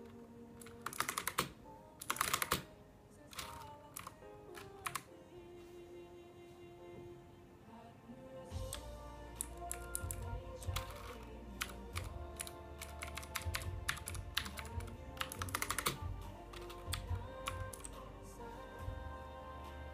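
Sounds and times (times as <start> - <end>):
background music: 0.0 - 19.9.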